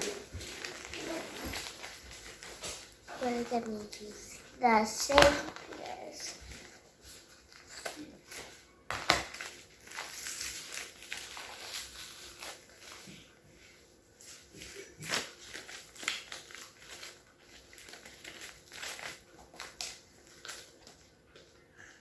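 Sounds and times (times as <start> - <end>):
plastic packaging crinkling: 0.0 - 21.2.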